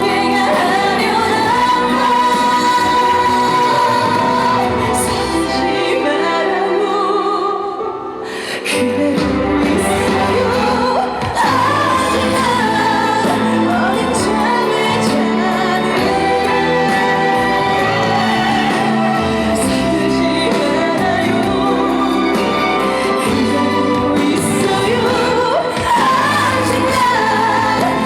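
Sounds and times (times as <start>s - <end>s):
amplified live music: 0.0s - 28.0s
woman singing: 0.0s - 28.0s.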